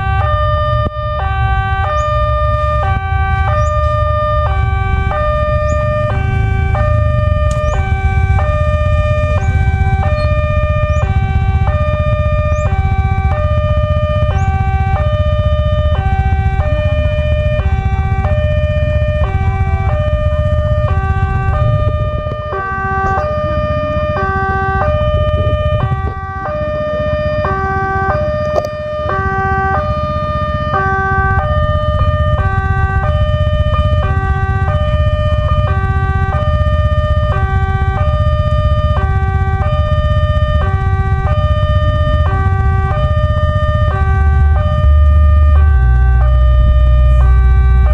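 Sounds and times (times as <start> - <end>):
level crossing alarm tones: 0.0 - 47.9
steady low rumble: 0.0 - 47.9.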